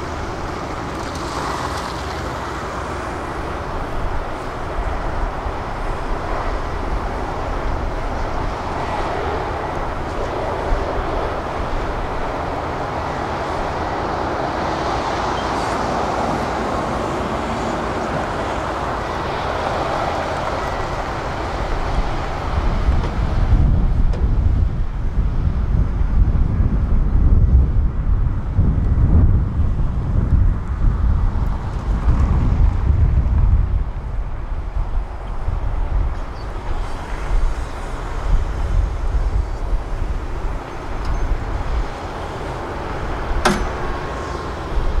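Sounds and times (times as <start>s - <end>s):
diesel engines running: 0.0s - 45.0s.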